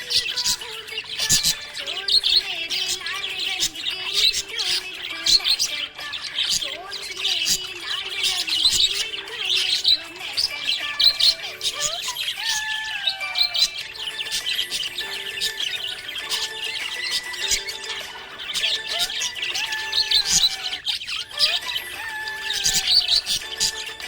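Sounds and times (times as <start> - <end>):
budgerigar chirping and warbling: 0.0 - 24.0.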